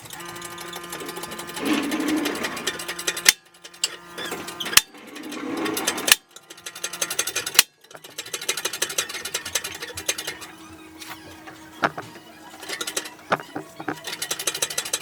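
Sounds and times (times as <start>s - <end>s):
rapid mechanical clicking: 0.0s - 10.8s, 11.4s - 15.0s.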